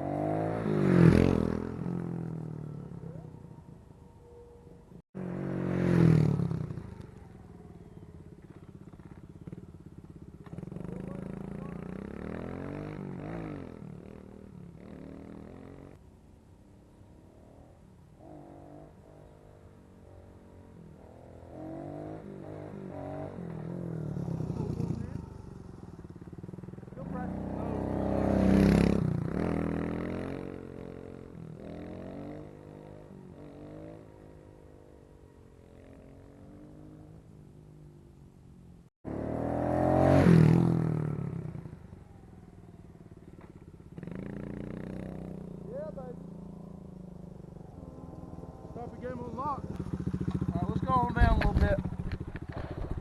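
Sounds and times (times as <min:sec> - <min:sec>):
muffled small motorbike engine: 0:00.0 - 0:16.0, 0:16.7 - 0:53.0.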